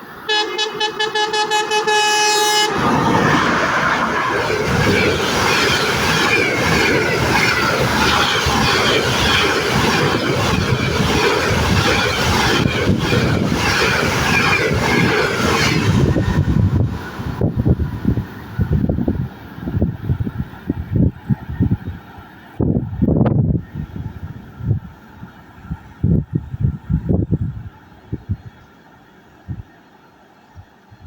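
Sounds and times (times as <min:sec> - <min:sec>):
train passing with rail noise: 0:00.0 - 0:31.0.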